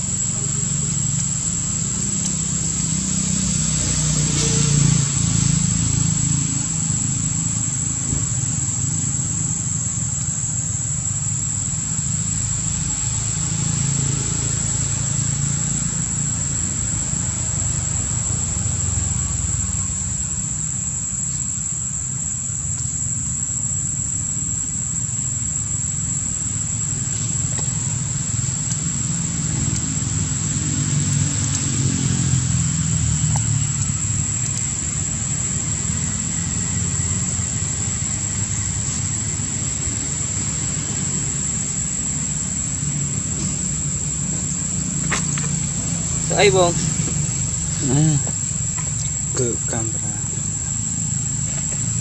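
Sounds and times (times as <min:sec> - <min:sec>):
insects droning: 0:00.0 - 0:52.0
low outdoor rumble: 0:00.0 - 0:52.0.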